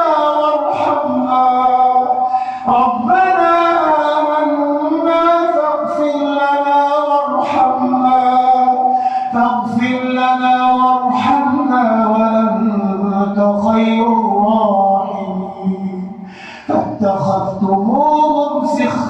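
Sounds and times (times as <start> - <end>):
man chanting melodically: 0.0 - 19.0.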